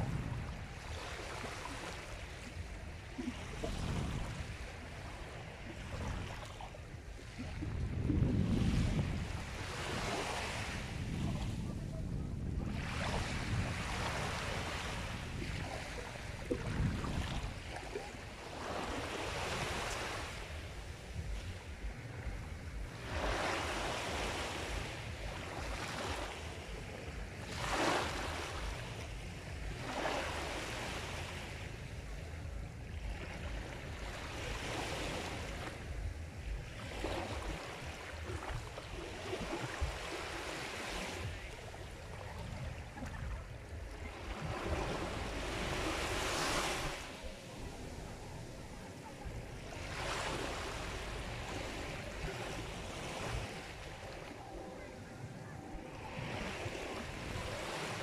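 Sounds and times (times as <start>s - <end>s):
constant low rumble: 0.0s - 58.0s
waves washing onto shore: 0.0s - 58.0s.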